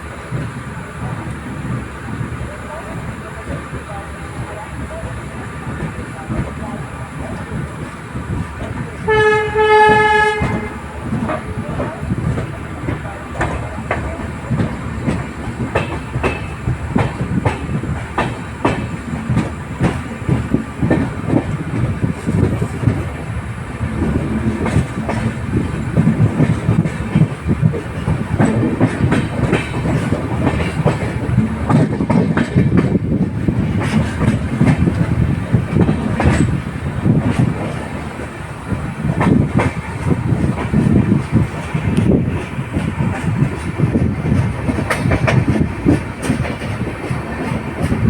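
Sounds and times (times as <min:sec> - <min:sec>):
train low rumble: 0:00.0 - 0:48.0
train wheels clattering over rail joints: 0:04.4 - 0:48.0.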